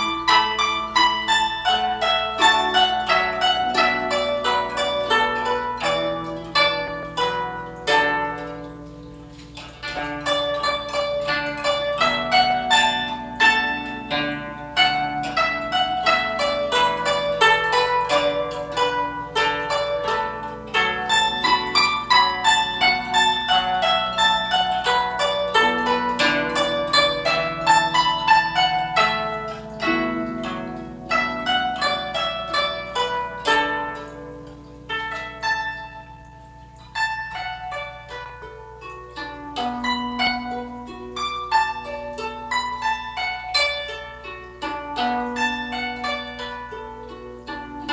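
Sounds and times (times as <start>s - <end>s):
plucked zither notes: 0.0s - 47.9s.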